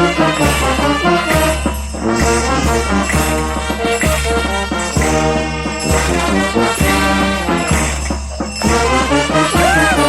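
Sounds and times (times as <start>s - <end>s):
brass band playing: 0.0s - 10.0s.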